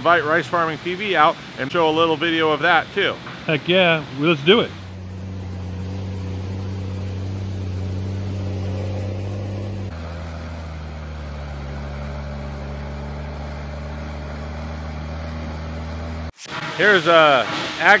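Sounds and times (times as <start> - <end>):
tractor diesel engine under load: 3.0 - 18.0.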